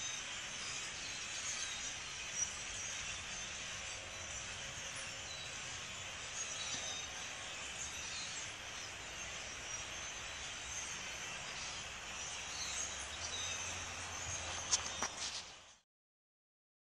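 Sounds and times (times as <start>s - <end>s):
flock of starlings chattering: 0.0s - 15.7s.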